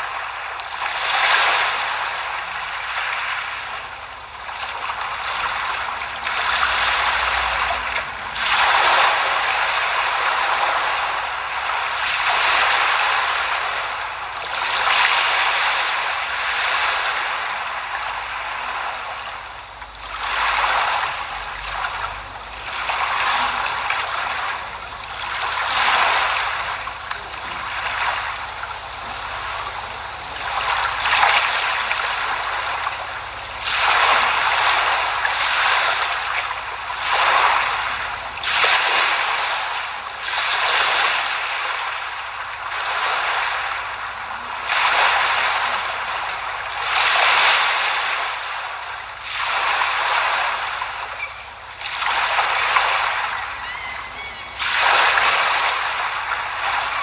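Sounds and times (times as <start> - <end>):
sea waves breaking on beach: 0.0 - 57.0.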